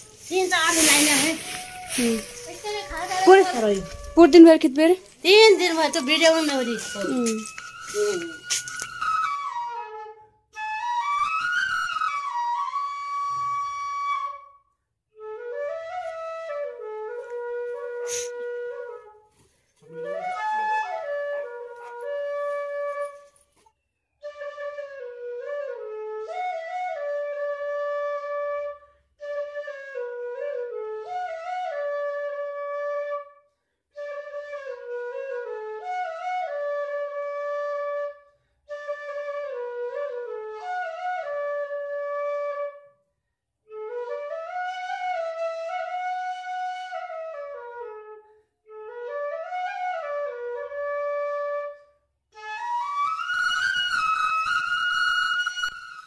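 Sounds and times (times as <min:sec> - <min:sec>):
solo flute melody: 0:00.0 - 0:04.7, 0:05.3 - 0:43.1, 0:43.7 - 0:56.0.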